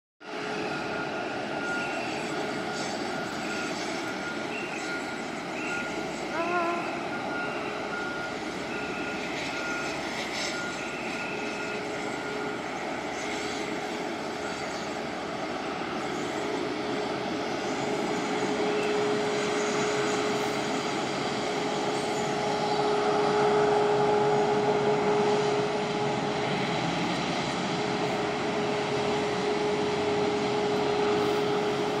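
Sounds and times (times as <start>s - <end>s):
jet engines whining: 0.3s - 32.0s.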